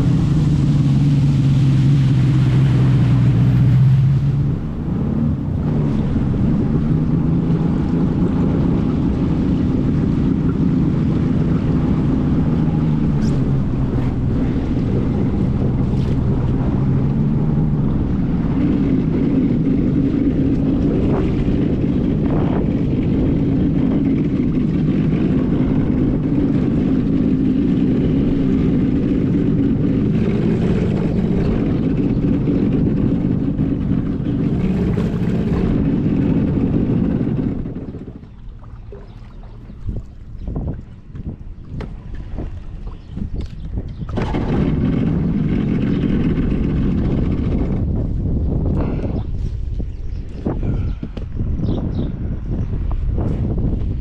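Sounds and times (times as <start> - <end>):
watercraft engine running: 0.0 - 54.0
wind on microphone: 0.0 - 54.0.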